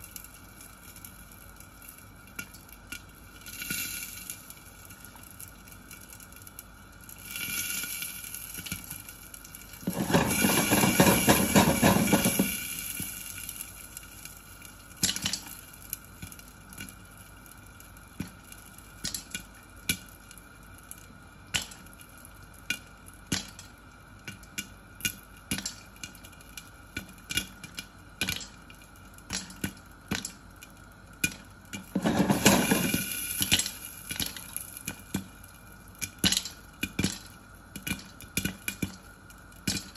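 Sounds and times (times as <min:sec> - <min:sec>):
popcorn popping: 0:00.0 - 0:39.9.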